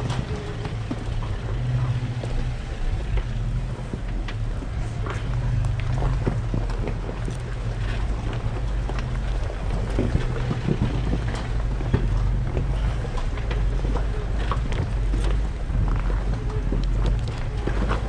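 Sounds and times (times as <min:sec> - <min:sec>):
low engine drone: 0:00.0 - 0:18.0
rocks clicking under tyres: 0:00.0 - 0:18.0.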